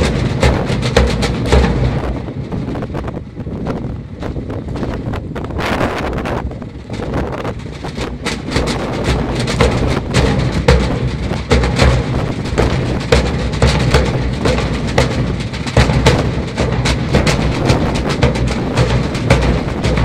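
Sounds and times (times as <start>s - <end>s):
fife and drum band march: 0.0s - 20.0s
snare and bass drums beating: 0.0s - 20.0s
wind rumble on microphone: 0.0s - 20.0s.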